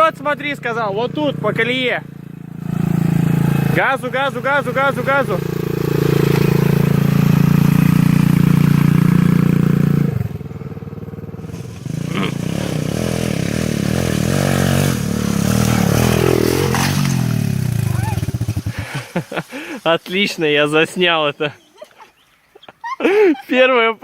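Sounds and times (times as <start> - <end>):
pit bike engine revving: 0.0 - 21.1.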